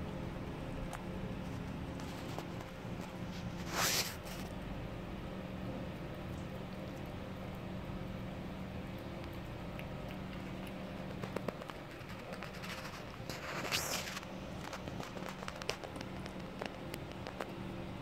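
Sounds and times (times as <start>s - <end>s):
cat chewing wet food: 0.0s - 18.0s
steady low hum: 0.0s - 18.0s.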